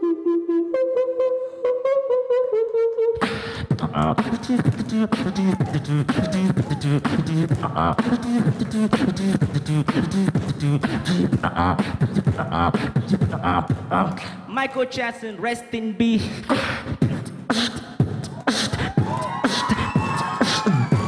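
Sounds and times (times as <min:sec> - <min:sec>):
beatboxing into a microphone: 0:02.6 - 0:21.0.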